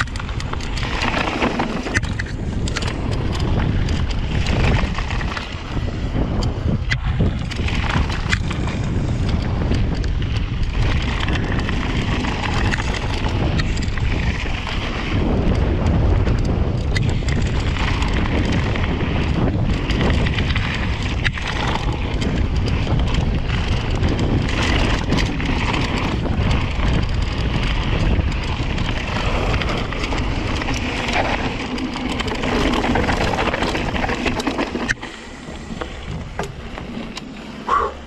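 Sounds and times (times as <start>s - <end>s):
bike rattling: 0.0s - 38.0s
bike tyres rolling over stones: 0.0s - 38.0s
wind noise on microphone: 0.0s - 38.0s.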